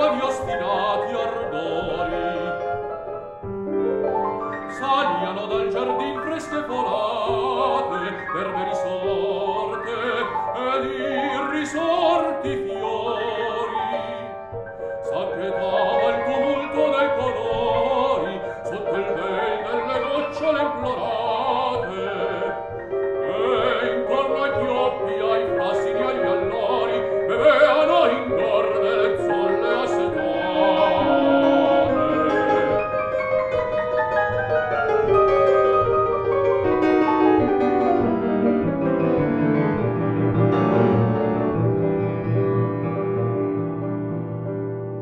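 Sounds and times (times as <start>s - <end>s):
man singing classical song: 0.0s - 43.6s
piano: 0.0s - 45.0s.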